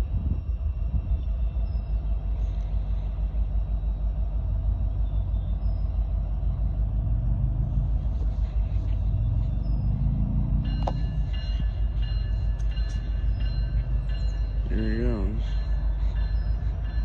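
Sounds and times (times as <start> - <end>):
diesel locomotives rumbling and revving: 0.0 - 17.0.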